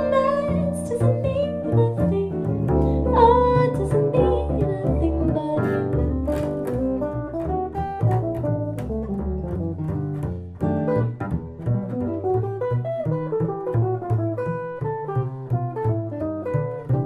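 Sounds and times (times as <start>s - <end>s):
jazz guitar single notes: 0.0s - 17.0s
plucked upright bass: 0.0s - 17.0s.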